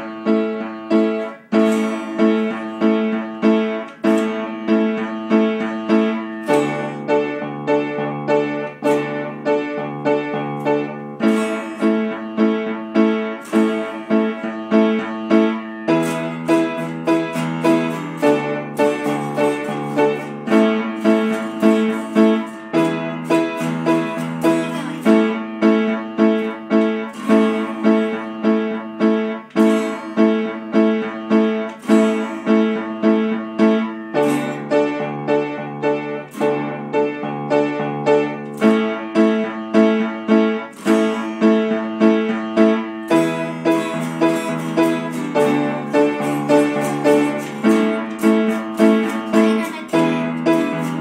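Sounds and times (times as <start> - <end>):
guitar strumming: 0.0 - 51.0
upright piano playing chords: 0.0 - 51.0.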